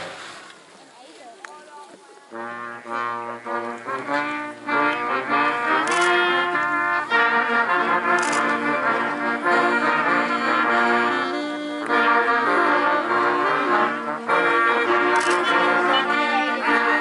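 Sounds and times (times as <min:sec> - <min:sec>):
brass band slow held notes: 0:02.3 - 0:17.0.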